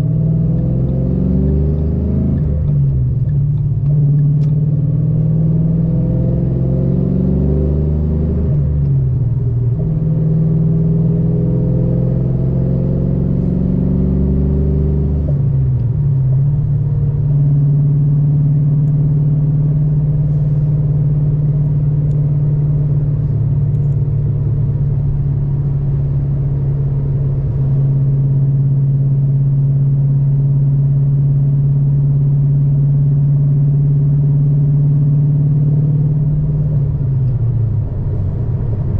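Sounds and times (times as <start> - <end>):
loud car engine running: 0.0 - 38.9.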